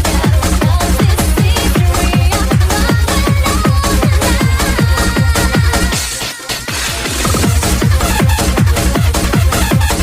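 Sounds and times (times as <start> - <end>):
fast electronic dance music: 0.0 - 10.0
heavy rapid kick drum: 0.0 - 10.0.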